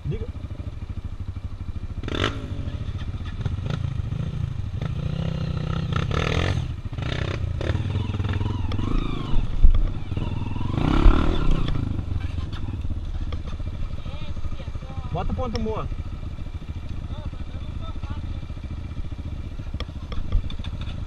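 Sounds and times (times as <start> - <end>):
motorcycle engine revving: 0.0 - 21.0
engine knocks and clatter: 0.1 - 21.0.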